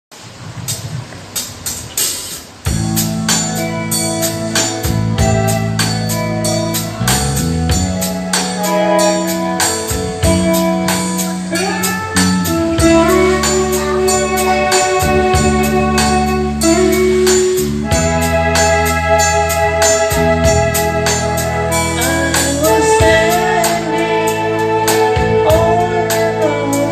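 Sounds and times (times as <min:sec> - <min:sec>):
instrumental band music: 0:00.1 - 0:26.9.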